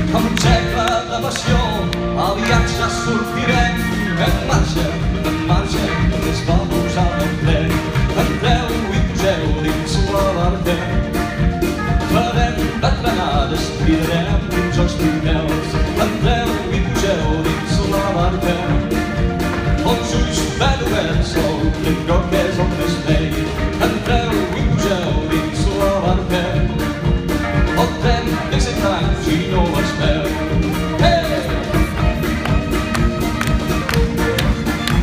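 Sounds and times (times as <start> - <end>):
live band music: 0.0 - 35.0.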